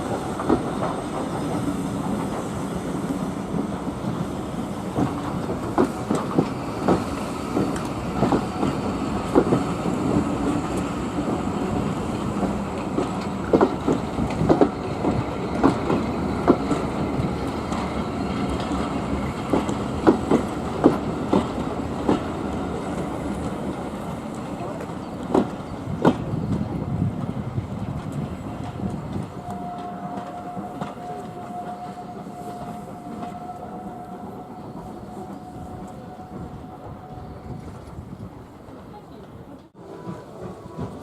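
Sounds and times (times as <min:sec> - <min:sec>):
train carriages rumbling on track: 0:00.0 - 0:41.0.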